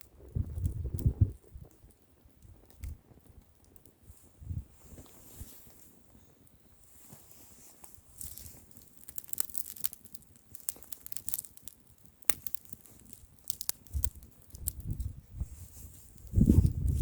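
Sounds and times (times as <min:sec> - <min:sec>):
wood bonfire crackling: 0:00.0 - 0:17.0.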